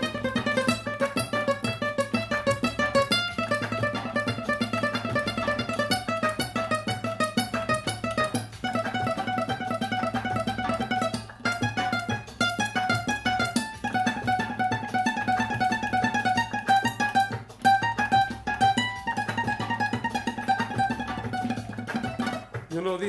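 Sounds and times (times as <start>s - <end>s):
flamenco guitar: 0.0s - 23.0s.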